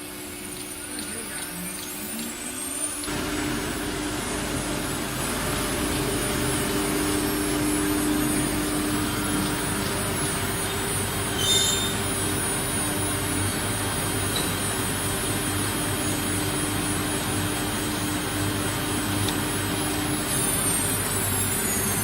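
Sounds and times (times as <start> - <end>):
high squeal: 0.8 - 18.2, 19.7 - 22.0
wood router spindle whine: 2.0 - 22.0.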